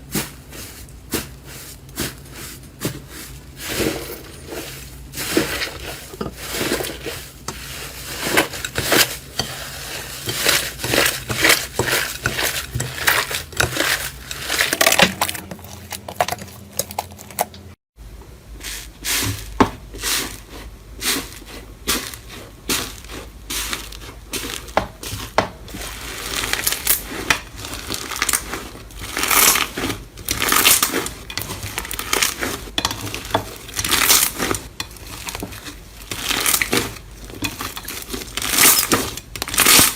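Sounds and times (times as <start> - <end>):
crunchy material crunching: 0.0 - 17.6, 18.7 - 39.9.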